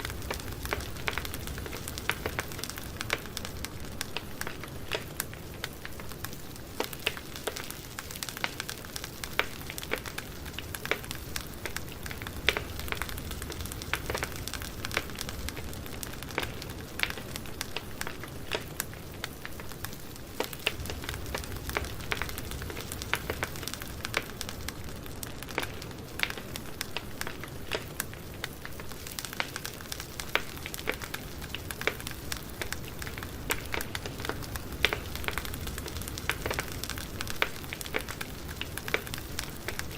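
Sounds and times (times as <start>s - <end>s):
flame hissing and rumbling: 0.0s - 39.9s
wood crackling and popping: 0.0s - 39.9s.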